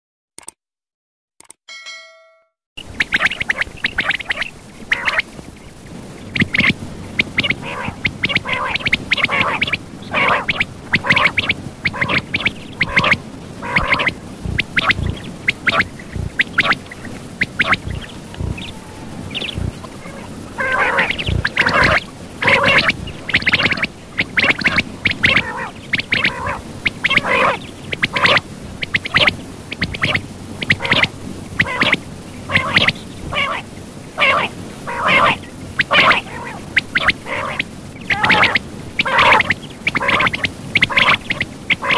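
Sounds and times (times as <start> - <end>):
quail calling: 2.8 - 5.8, 6.4 - 41.9.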